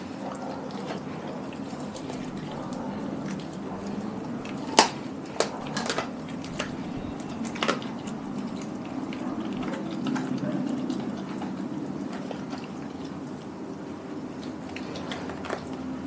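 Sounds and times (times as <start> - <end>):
dog licking and gnawing: 0.0 - 16.0.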